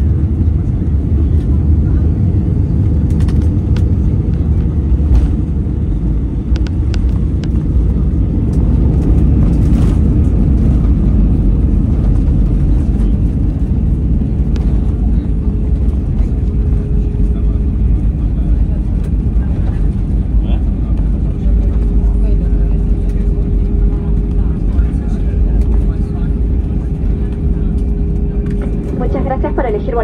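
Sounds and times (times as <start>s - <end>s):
jet engine and airflow roar: 0.0s - 30.0s.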